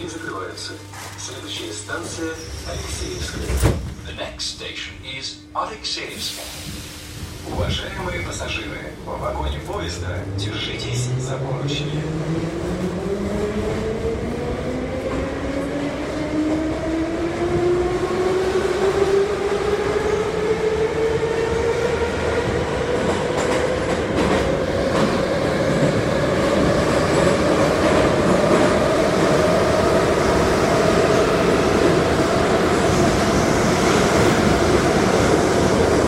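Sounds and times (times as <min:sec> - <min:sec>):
train wheels rumbling on rails: 0:06.3 - 0:36.0.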